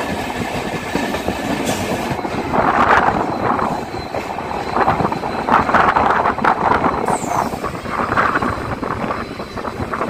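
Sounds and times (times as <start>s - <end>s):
train rumble: 0.0s - 10.0s
wind on microphone: 0.1s - 10.0s.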